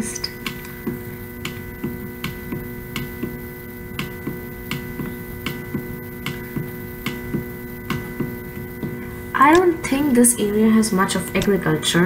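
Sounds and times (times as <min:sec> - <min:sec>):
electrical hum: 0:00.0 - 0:12.0
faint regular ticking: 0:00.0 - 0:12.0.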